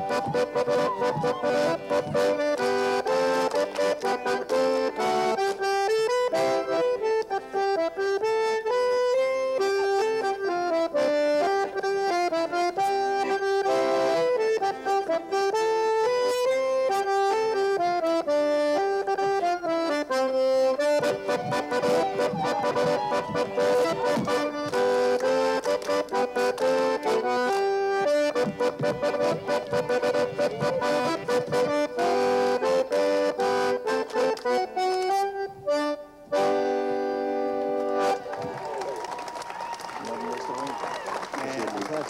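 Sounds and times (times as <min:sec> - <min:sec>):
accordion dance tune: 0:00.0 - 0:39.4.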